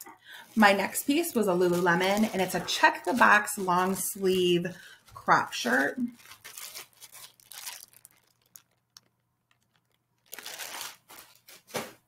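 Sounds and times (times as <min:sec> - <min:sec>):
plastic bag crinkling: 0:00.3 - 0:12.0.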